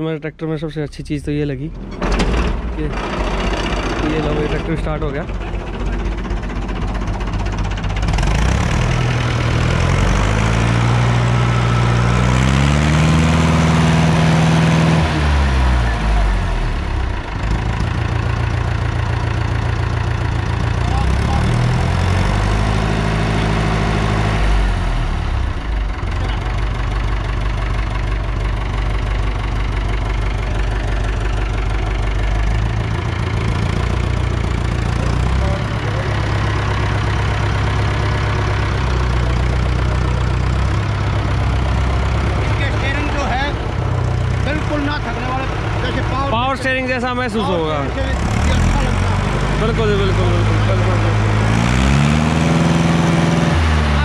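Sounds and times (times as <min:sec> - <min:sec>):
tractor engine idling and revving: 0:00.0 - 0:54.0.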